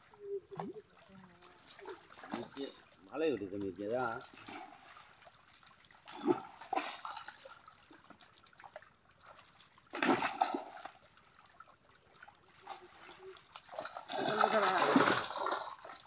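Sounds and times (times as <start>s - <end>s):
fish splashing in water: 0.5s - 3.0s, 4.2s - 16.0s.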